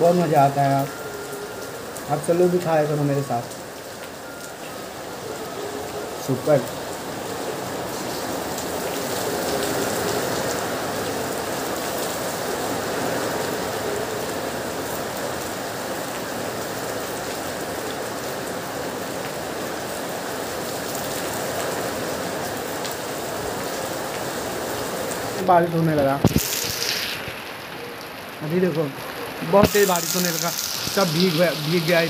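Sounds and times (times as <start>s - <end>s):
heavy rain falling: 0.0s - 32.0s
rain drops ticking: 0.0s - 32.0s.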